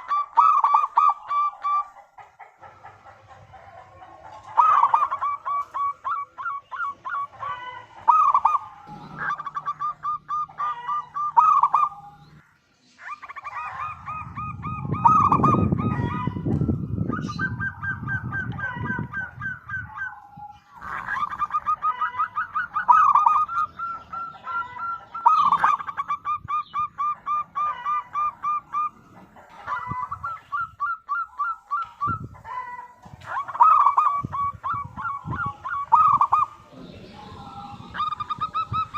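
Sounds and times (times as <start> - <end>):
dove cooing: 0.0 - 12.4, 13.0 - 38.9.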